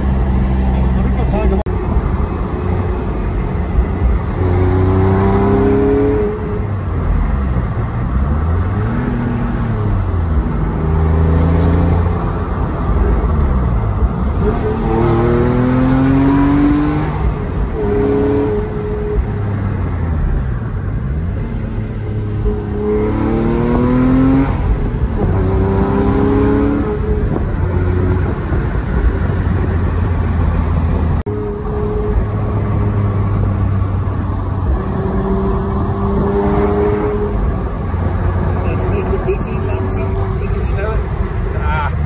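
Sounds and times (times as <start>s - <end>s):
car engine accelerating: 0.0s - 42.0s
road noise: 0.0s - 42.0s.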